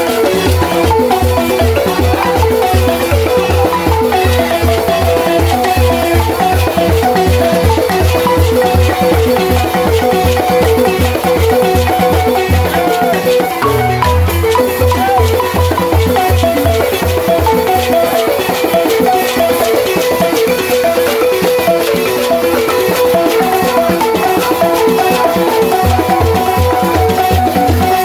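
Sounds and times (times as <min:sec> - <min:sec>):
wooden xylophone melody: 0:00.0 - 0:28.0.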